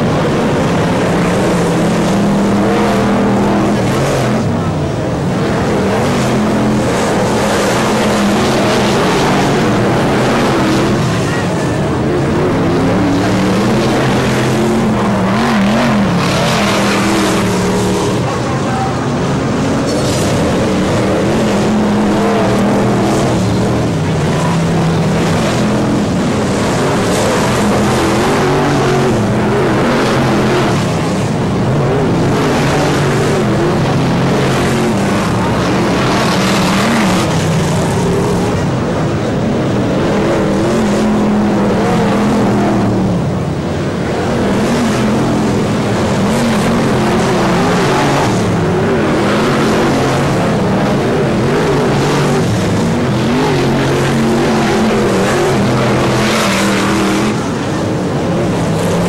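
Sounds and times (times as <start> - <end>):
race car engines: 0.0 - 59.0.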